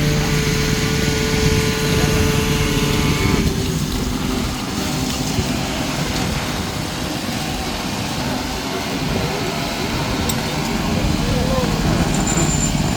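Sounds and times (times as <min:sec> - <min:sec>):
heavy machinery engine running: 0:00.0 - 0:12.9.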